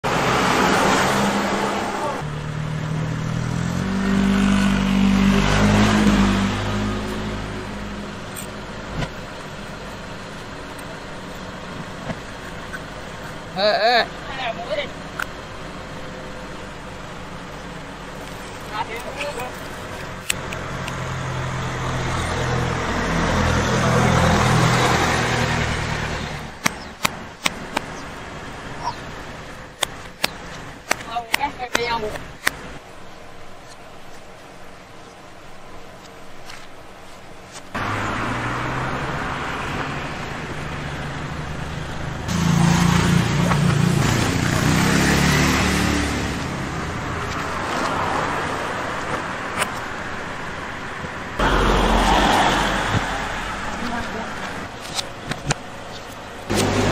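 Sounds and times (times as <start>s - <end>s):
vehicle engine running: 1.1s - 32.9s, 37.8s - 48.0s, 52.8s - 56.9s.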